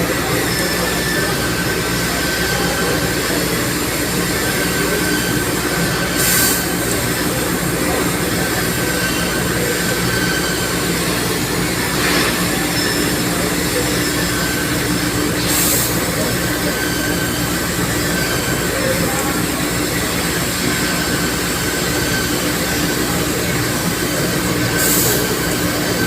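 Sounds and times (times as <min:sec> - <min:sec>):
laser cutting machine running: 0:00.0 - 0:26.0.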